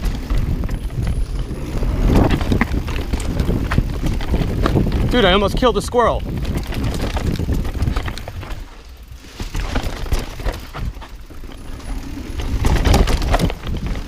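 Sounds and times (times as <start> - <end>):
low rumble of tyres: 0.0 - 14.0
mountain bike rattling: 0.0 - 14.0
rapid clicks from bike: 0.0 - 14.0
wind on microphone: 0.0 - 14.0.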